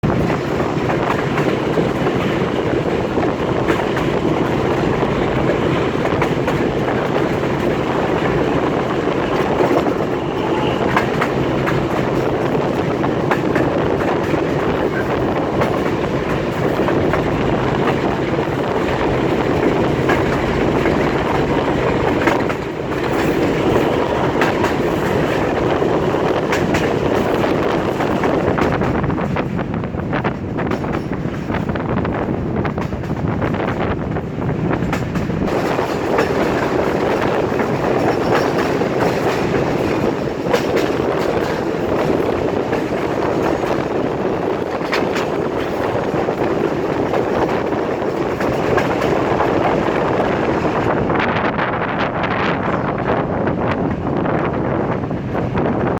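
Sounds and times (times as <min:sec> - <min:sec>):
wheels clacking over rail joints: 0:00.0 - 0:51.3
train rumble: 0:00.0 - 0:55.9.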